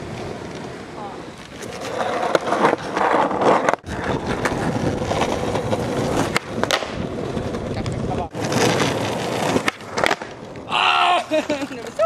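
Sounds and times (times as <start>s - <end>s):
skateboard clacking on ground: 0.0s - 10.7s
skateboard wheels rolling on asphalt: 0.0s - 12.0s.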